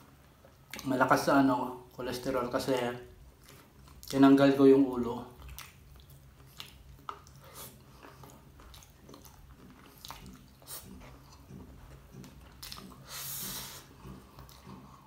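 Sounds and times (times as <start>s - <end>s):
wet chewing mouth clicks: 0.1s - 1.0s, 2.7s - 4.3s, 5.3s - 15.0s.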